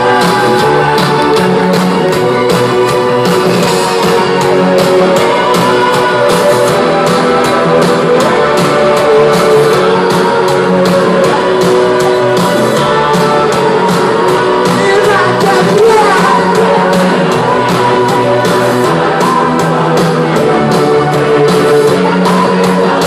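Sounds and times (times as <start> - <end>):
electric guitar: 0.0 - 23.0
rock band playing: 0.0 - 23.0
steady drum beat: 0.0 - 23.0.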